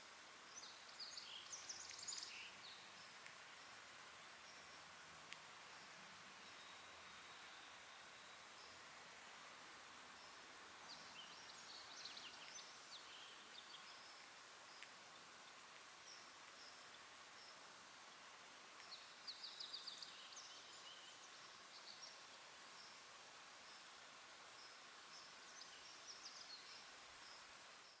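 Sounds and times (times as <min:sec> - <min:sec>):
distant small birds chirping: 0:00.1 - 0:28.0.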